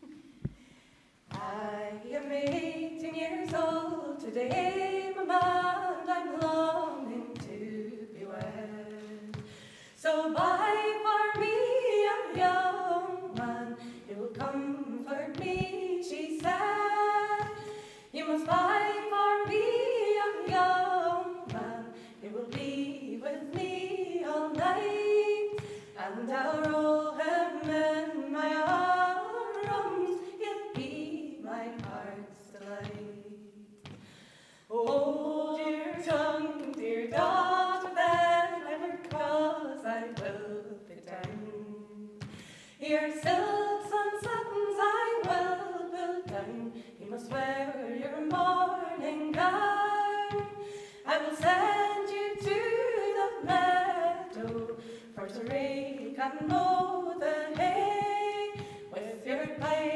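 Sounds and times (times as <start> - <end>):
women singing unaccompanied: 1.3 - 34.0, 34.7 - 59.9.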